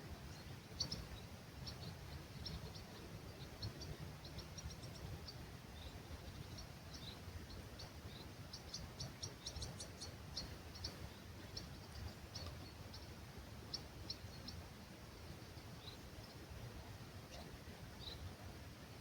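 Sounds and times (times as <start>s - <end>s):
low rumble of breeze: 0.0s - 19.0s
small birds chirping: 0.0s - 19.0s.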